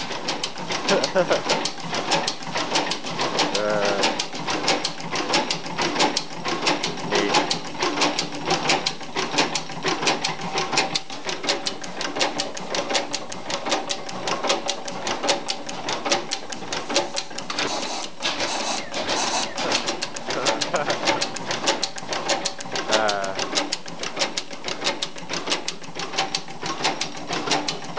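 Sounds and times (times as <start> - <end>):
stationary engine clicking: 0.0 - 27.9.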